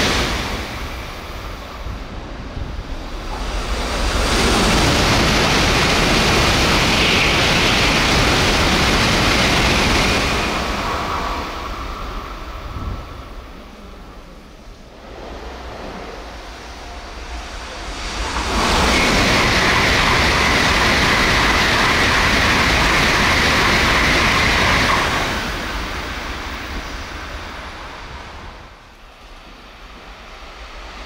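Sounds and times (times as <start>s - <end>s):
high-speed train passing: 0.0s - 31.0s.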